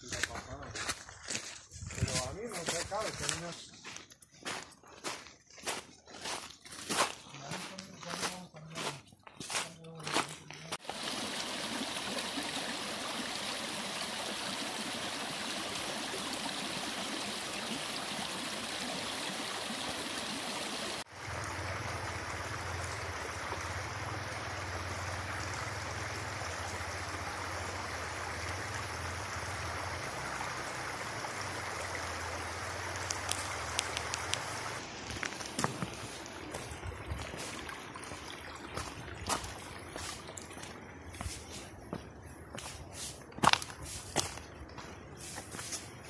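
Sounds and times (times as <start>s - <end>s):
stream running over stones: 5.6s - 46.0s.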